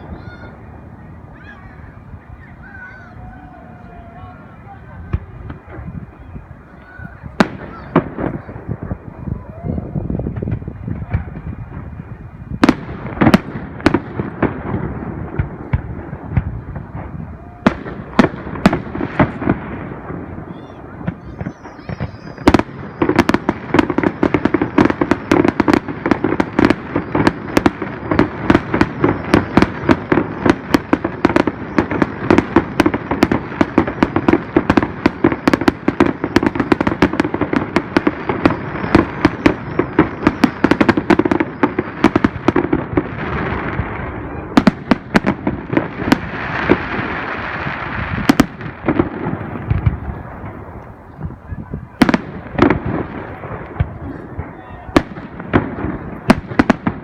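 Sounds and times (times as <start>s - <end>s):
fireworks bangs: 0.0s - 57.0s
hissing crackling fireworks: 0.0s - 57.0s.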